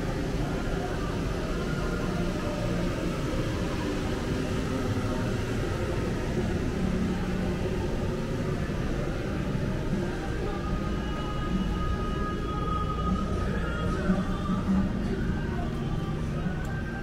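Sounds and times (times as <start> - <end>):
city street ambience in rain: 0.0 - 17.0.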